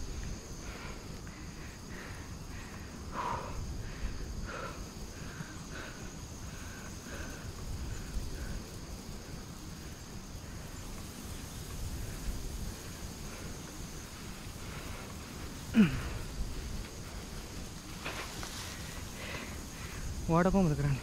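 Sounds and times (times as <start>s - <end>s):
high-pitched insect drone: 0.0s - 21.0s
wind rumbling on microphone: 0.0s - 21.0s.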